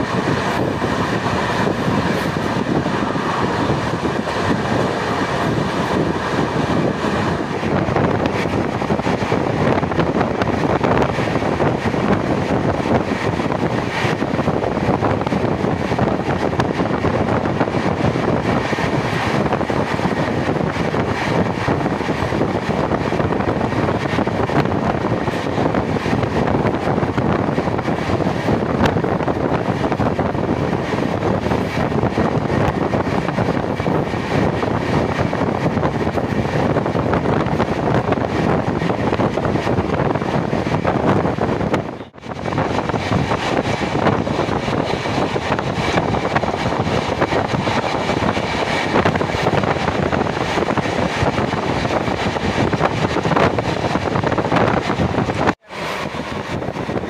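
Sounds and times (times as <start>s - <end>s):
train rushing at speed: 0.0s - 57.0s
wind buffeting microphone: 0.0s - 57.0s.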